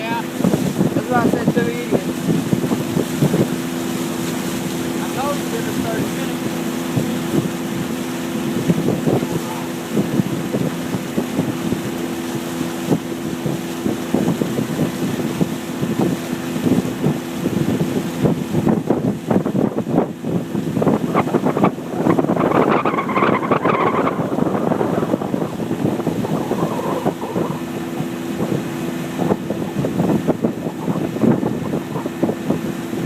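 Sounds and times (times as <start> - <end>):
motorboat engine hum: 0.0 - 33.0
wind buffeting microphone: 0.0 - 33.0.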